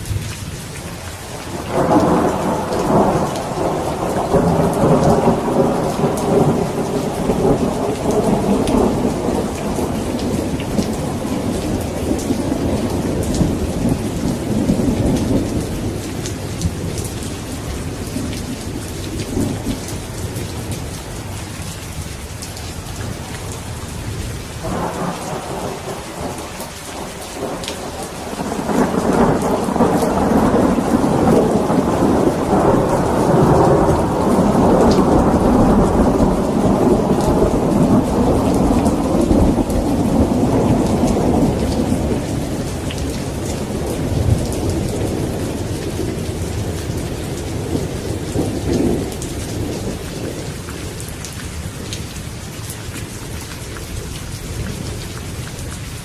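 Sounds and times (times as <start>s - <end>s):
steady rain: 0.0s - 56.0s
rolling thunder: 1.5s - 20.8s, 23.1s - 50.6s.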